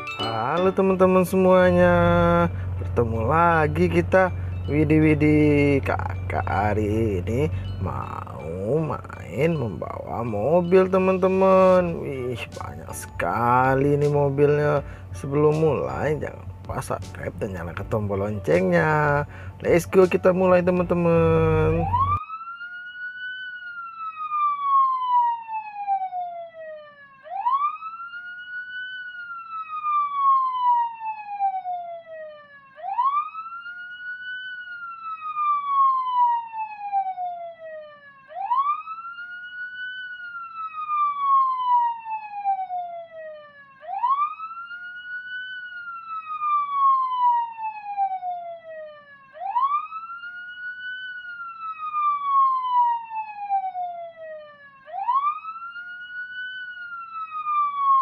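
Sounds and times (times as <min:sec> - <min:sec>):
wailing siren: 0:00.0 - 0:58.0.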